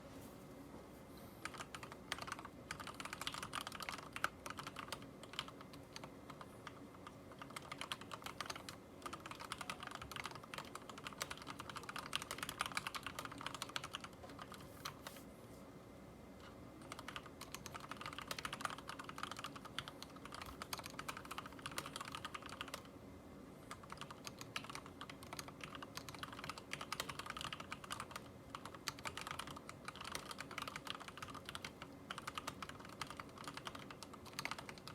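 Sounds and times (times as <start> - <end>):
mechanical keyboard typing: 1.4 - 15.1, 16.4 - 22.9, 23.7 - 34.9.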